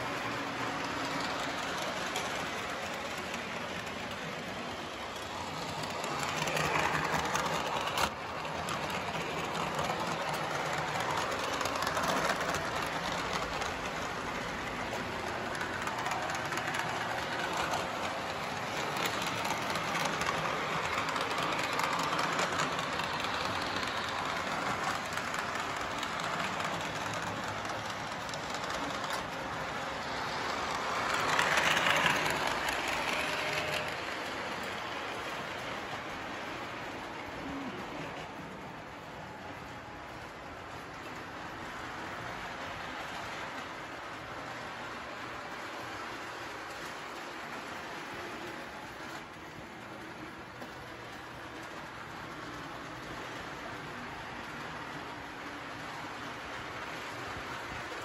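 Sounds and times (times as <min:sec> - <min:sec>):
model train wheels clattering on rails: 0:00.0 - 0:58.0.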